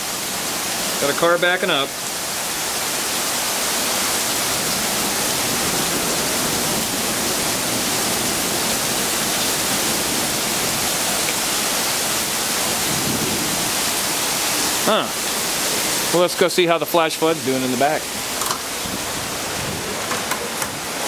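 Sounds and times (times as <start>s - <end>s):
torrential rain pouring: 0.0s - 21.0s.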